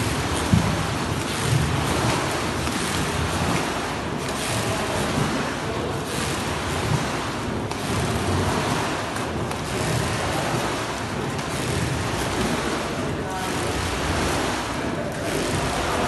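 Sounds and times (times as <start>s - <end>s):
oar splashing through water: 0.0s - 16.0s.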